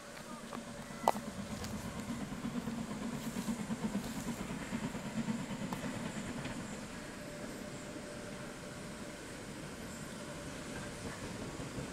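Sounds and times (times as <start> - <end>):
steam locomotive rumbling: 0.0 - 11.9.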